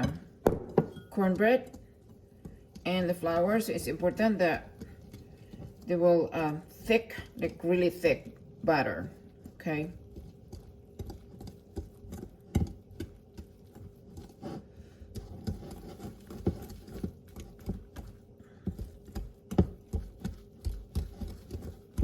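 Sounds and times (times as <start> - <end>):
utensil stirring batter in bowl: 0.0 - 22.0.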